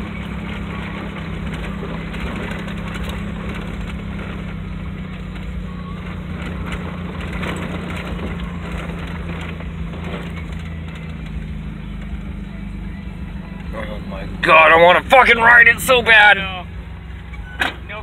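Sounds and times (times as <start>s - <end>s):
tyres rolling over gravel: 0.0s - 18.0s
vehicle engine running: 0.0s - 18.0s.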